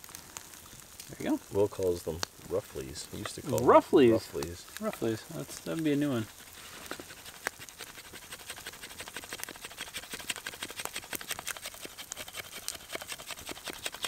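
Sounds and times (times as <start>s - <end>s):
campfire crackling: 0.0s - 14.0s
steaks sizzling: 0.0s - 14.0s.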